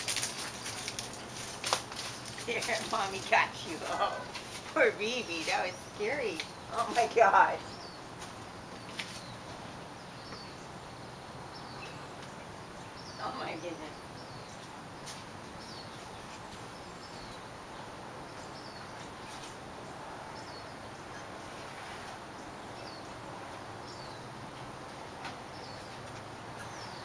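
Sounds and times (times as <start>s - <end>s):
outdoor background hiss: 0.0s - 27.0s
bird chirping: 2.2s - 27.0s.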